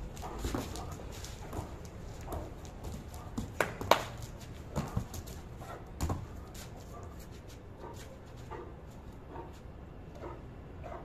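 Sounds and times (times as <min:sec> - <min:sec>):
dog paws thumping on concrete: 0:00.0 - 0:09.6.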